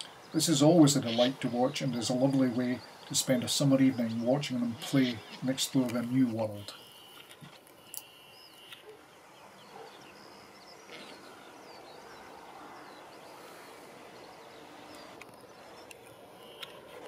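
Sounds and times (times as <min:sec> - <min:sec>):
small birds chirping: 0:00.0 - 0:17.0
steady low hiss: 0:00.0 - 0:17.0.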